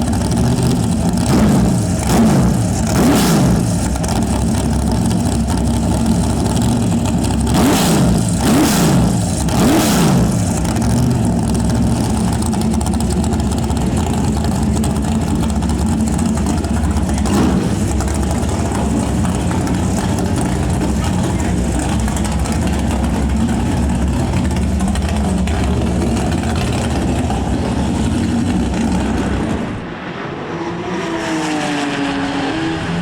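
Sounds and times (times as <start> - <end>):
racing car engine idling: 0.0 - 30.0.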